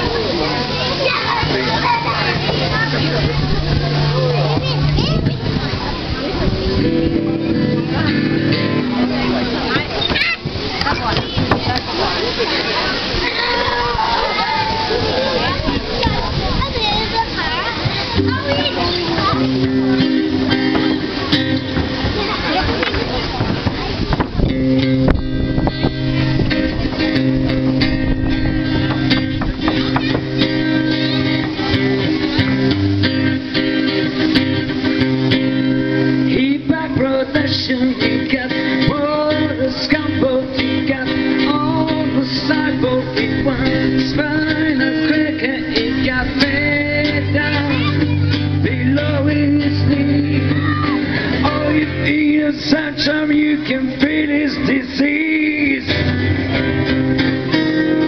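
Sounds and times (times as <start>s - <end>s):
live band music: 0.0s - 12.0s, 18.0s - 58.0s
bass line: 0.0s - 12.4s, 13.0s - 58.0s
electric guitar: 0.0s - 16.2s, 17.6s - 58.0s.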